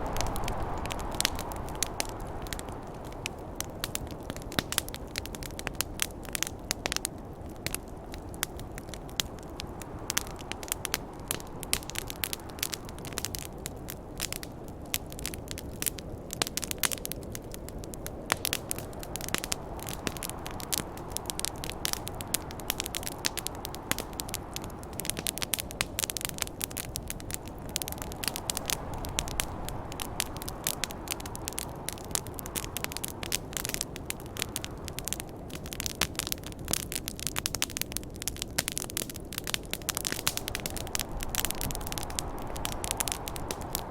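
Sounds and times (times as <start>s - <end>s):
snowstorm wind rushing: 0.0s - 35.8s, 38.7s - 43.9s
campfire crackling and popping: 0.0s - 43.9s.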